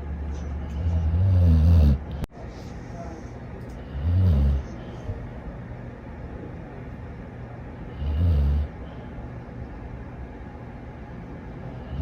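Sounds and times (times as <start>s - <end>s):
low background rumble and hiss: 0.0s - 12.0s.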